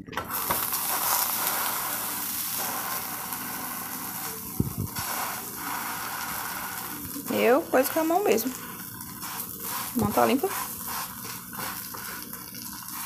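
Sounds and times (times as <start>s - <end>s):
bread sizzling in butter: 0.3s - 13.0s.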